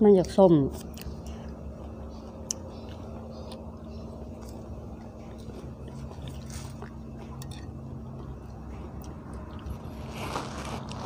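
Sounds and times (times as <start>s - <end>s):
steady low hum: 0.0s - 11.0s
quiet chewing: 0.2s - 11.0s.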